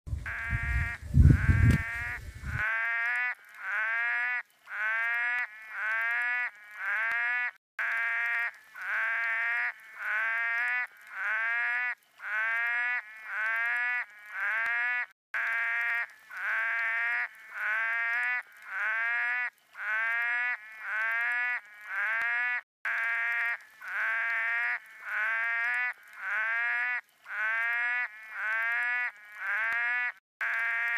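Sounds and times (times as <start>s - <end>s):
frog calls: 0.1s - 30.9s.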